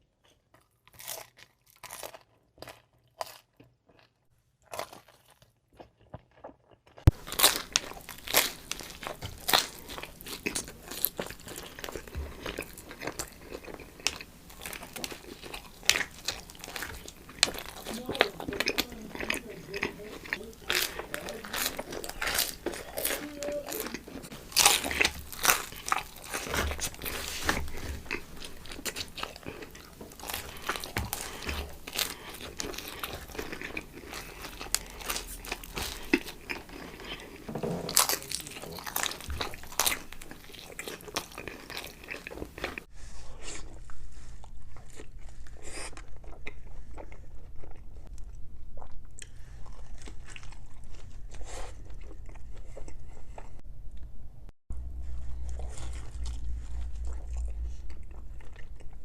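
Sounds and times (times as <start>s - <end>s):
pizza crust crunching: 0.2s - 43.8s, 55.0s - 59.0s.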